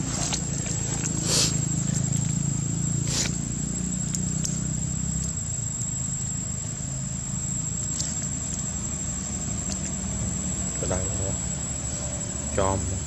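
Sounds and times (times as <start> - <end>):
high-pitched whine: 0.0 - 13.0
low hum: 0.0 - 13.0.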